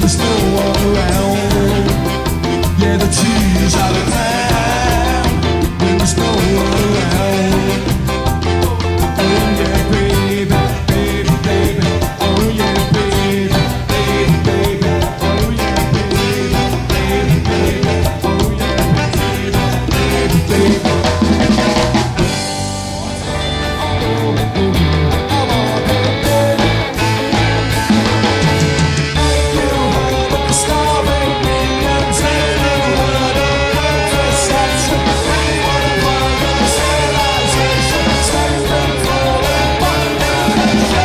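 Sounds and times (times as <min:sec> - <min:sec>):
bass: 0:00.0 - 0:41.0
drum kit: 0:00.0 - 0:41.0
guitar: 0:00.0 - 0:41.0
live band playing: 0:00.0 - 0:41.0
person singing: 0:00.0 - 0:41.0.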